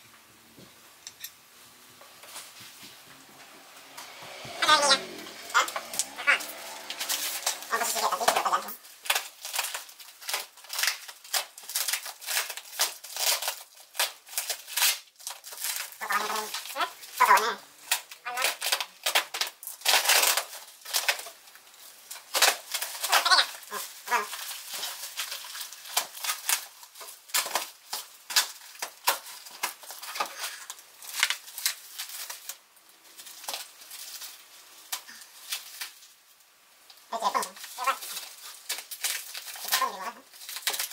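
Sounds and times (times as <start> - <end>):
plastic packaging crinkling: 2.1 - 40.9.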